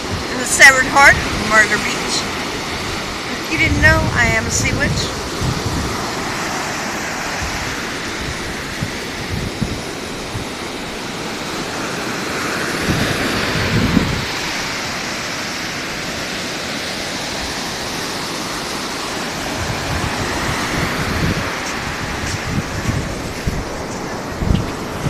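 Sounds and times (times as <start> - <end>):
ocean surf breaking: 0.0 - 25.0
wind rumble on microphone: 0.0 - 25.0.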